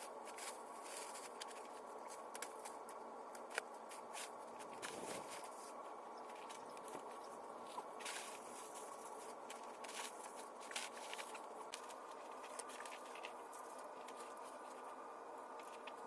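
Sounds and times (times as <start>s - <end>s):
clicks and rustles of vines: 0.0s - 16.0s.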